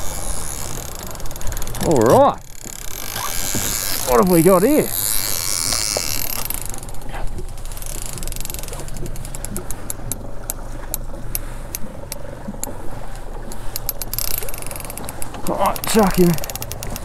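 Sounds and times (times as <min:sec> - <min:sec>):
fishing reel ratchet clicking: 0:00.0 - 0:11.0, 0:13.5 - 0:17.0
boat engine rumble: 0:00.0 - 0:17.0.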